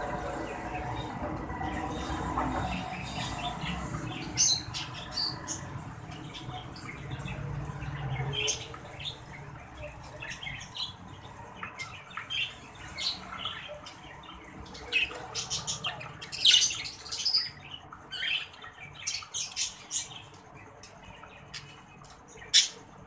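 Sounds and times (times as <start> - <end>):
budgerigars chirping and squawking: 0.2 - 23.0.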